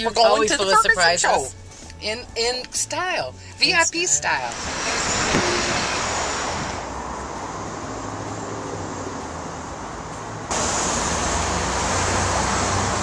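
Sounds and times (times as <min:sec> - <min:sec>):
car engine rumble: 0:00.0 - 0:13.0
street traffic noise: 0:00.0 - 0:13.0.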